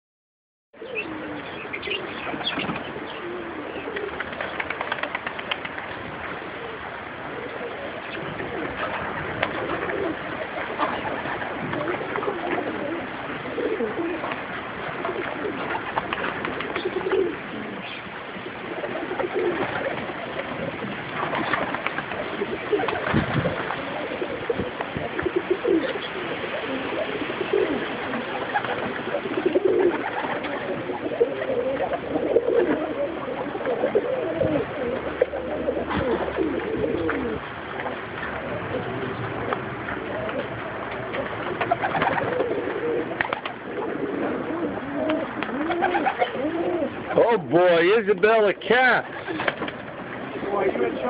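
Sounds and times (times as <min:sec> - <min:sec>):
pigeons cooing: 0:00.8 - 0:47.7, 0:49.0 - 0:51.0.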